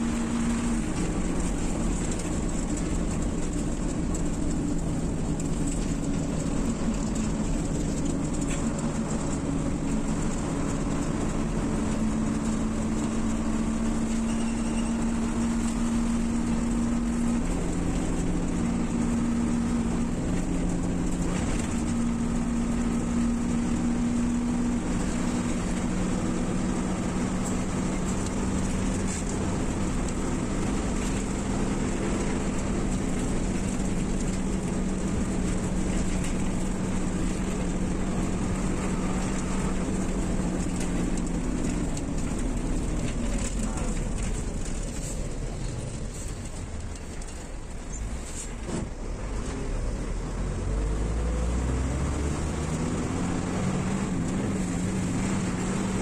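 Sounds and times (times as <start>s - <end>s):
bus engine drone: 0.0s - 56.0s
road noise: 0.0s - 56.0s.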